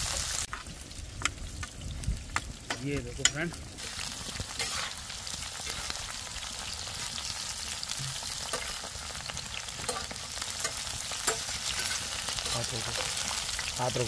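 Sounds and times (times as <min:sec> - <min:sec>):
okra sizzling in hot oil: 0:00.0 - 0:14.0.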